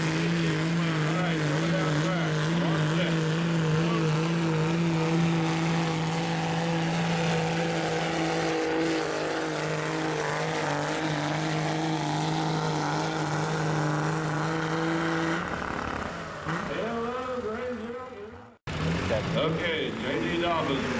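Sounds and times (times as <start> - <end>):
diesel truck engine at high revs: 0.0 - 20.9.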